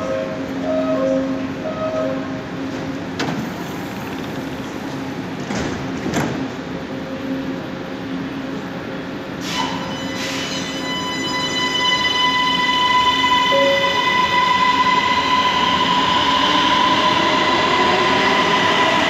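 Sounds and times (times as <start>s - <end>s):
train humming: 0.0s - 19.0s.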